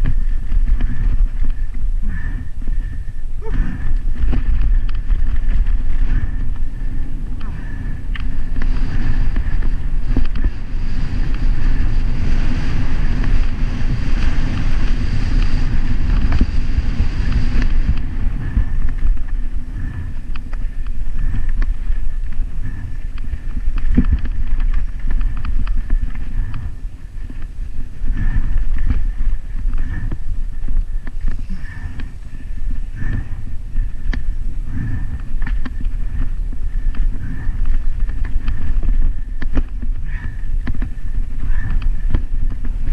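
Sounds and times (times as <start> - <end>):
bike rattling over rocks: 0.0 - 42.9
tyres rumbling on trail: 0.0 - 42.9
wind buffeting microphone: 0.0 - 42.9.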